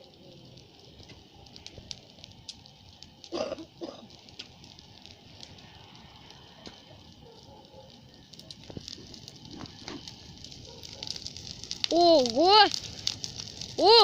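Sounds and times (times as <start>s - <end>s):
bonfire crackling and popping: 0.0s - 14.0s.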